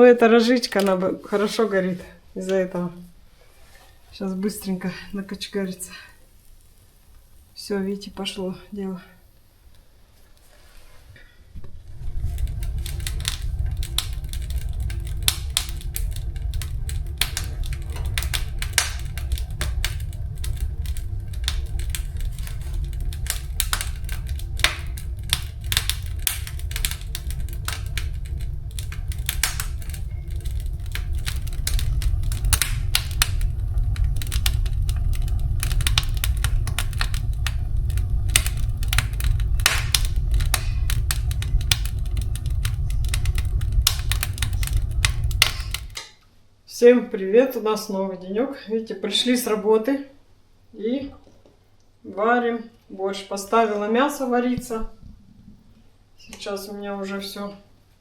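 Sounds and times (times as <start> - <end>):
wood fire crackling and popping: 0.0 - 47.8, 53.1 - 58.0.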